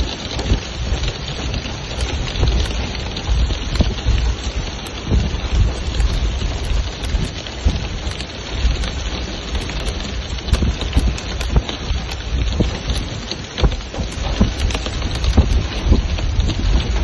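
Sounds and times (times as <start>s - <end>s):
hail hitting pavement: 0.0s - 17.0s
heavy rain hissing: 0.0s - 17.0s
low rumble: 0.0s - 17.0s.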